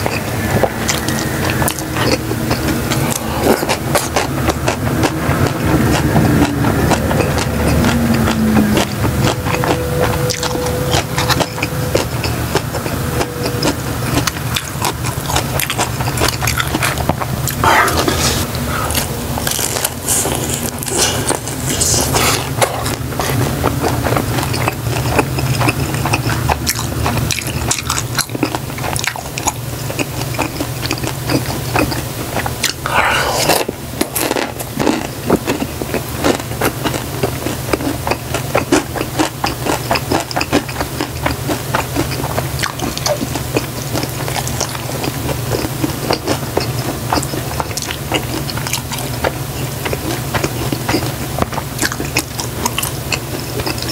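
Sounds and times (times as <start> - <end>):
crispy food chewing: 0.0 - 53.9
low steady hum: 0.0 - 53.9
wet mouth sounds: 0.0 - 53.9.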